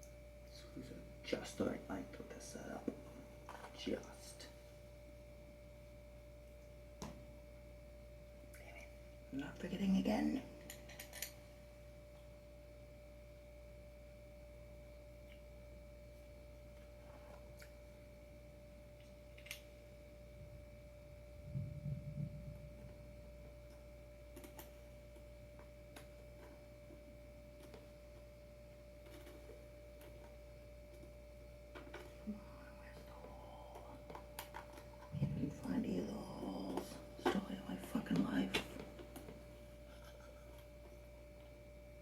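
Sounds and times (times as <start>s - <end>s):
faint high-pitched hum: 0.0s - 42.0s.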